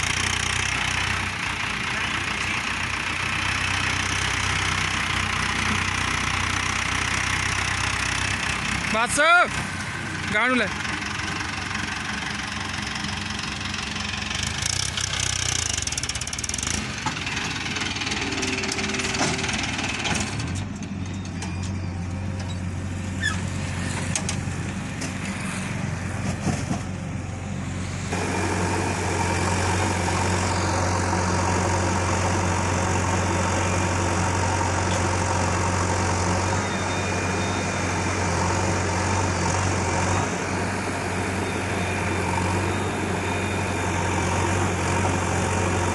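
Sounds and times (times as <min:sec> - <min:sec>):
heavy diesel machinery running: 0:00.0 - 0:45.9.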